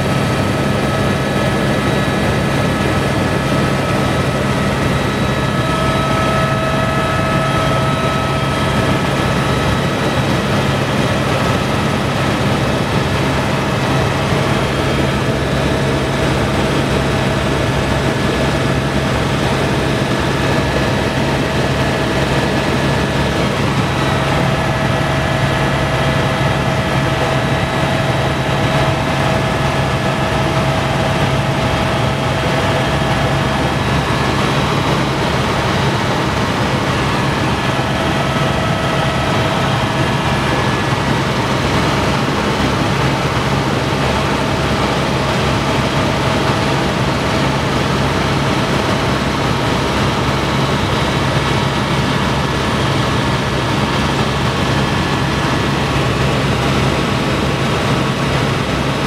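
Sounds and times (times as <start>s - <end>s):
faint steady whining tones: 0.0s - 59.0s
helicopter engine and rotor drone: 0.0s - 59.0s.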